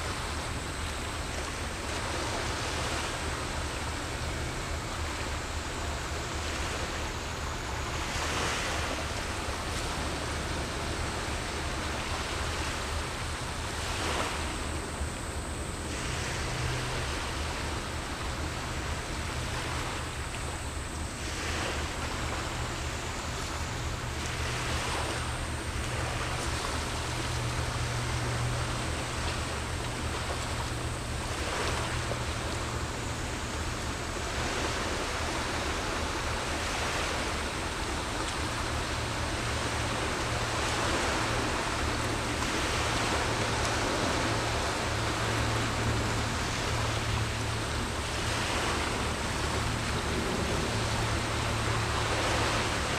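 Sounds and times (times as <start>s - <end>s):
small waves washing on shore: 0.0s - 52.9s
steady low hum: 0.0s - 52.9s.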